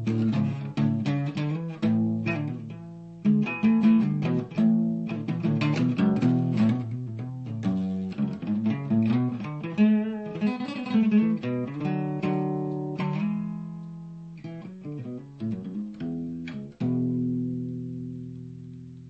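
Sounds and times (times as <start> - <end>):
guitar picked and strummed: 0.0 - 19.0.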